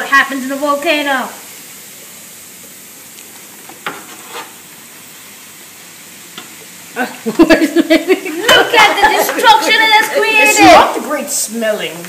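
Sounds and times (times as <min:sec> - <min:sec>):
fizzing foam hiss: 0:00.0 - 0:12.0.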